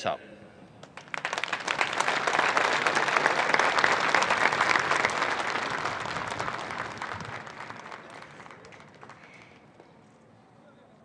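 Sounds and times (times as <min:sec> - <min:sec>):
crowd applauding: 0:00.8 - 0:09.8.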